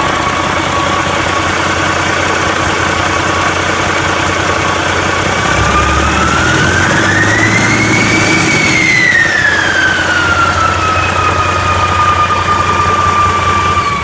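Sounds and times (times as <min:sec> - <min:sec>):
diesel engine idling and revving: 0:00.0 - 0:14.0
engine whine rising in pitch: 0:00.0 - 0:14.0.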